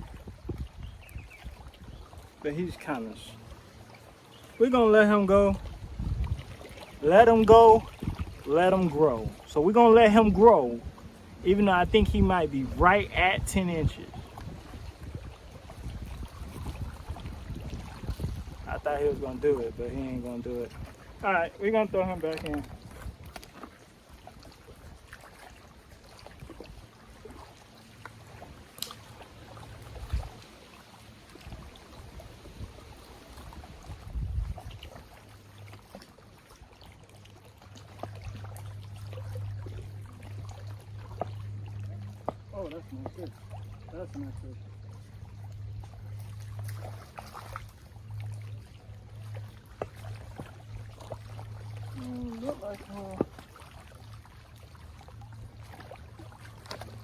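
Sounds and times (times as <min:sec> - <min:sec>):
water lapping against kayak hull: 0:00.0 - 0:57.0.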